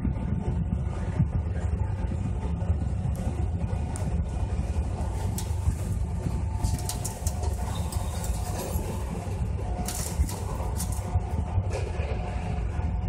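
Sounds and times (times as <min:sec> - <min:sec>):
blowers rumbling: 0:00.0 - 0:13.0.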